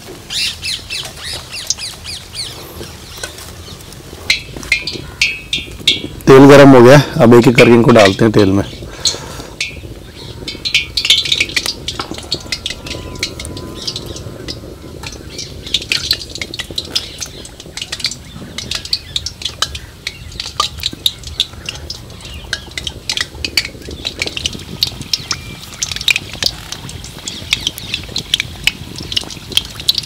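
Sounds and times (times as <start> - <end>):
deep-frying oil crackling: 0.0 - 30.0
steady low rumble: 0.0 - 30.0.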